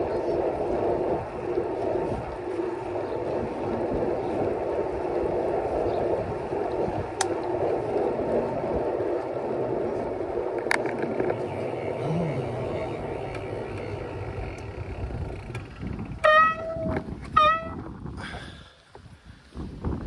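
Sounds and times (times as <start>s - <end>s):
wind and bicycle tyres rushing: 0.0s - 20.0s.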